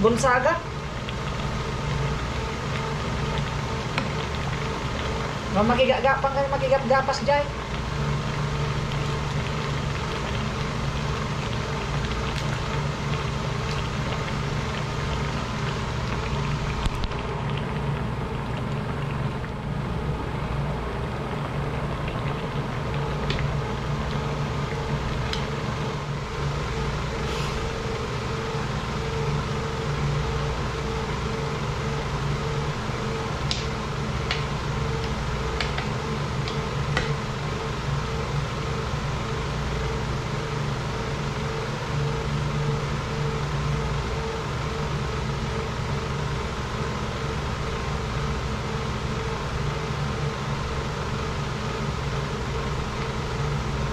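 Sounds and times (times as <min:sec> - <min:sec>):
machine humming: 0:00.0 - 0:53.9.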